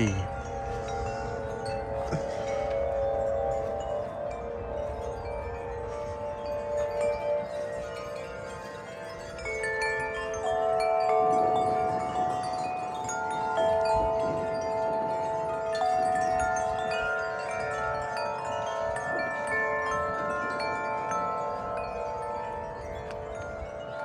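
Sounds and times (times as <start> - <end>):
metal wind chimes ringing: 0.0 - 24.0.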